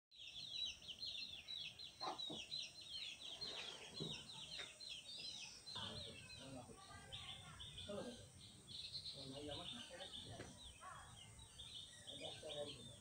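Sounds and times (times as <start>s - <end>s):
small birds chirping rapidly: 0.1s - 13.0s.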